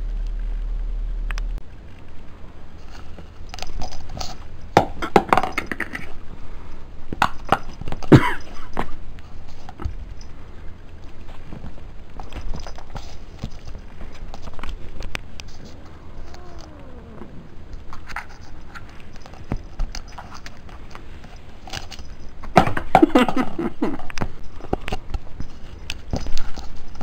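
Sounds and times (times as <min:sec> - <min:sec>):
low steady hum: 0:00.0 - 0:27.0
handling rustles and knocks: 0:01.7 - 0:27.0.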